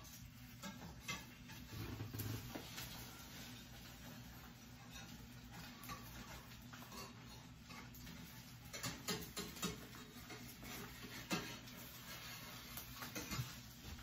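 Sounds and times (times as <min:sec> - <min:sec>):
metal spatula scraping frying pan: 0:00.0 - 0:14.0.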